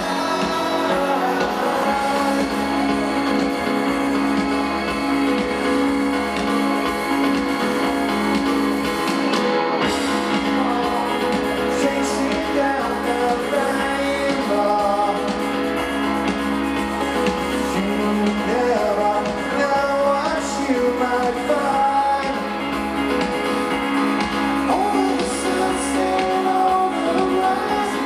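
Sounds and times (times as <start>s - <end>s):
person singing: 0.0s - 23.6s, 24.6s - 28.0s
live rock band playing: 0.0s - 28.0s.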